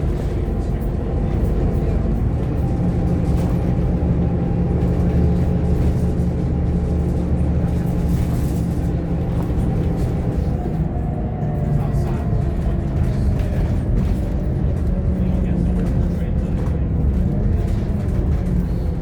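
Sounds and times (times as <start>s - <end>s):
bus diesel engine running: 0.0s - 19.0s
road noise: 0.0s - 19.0s.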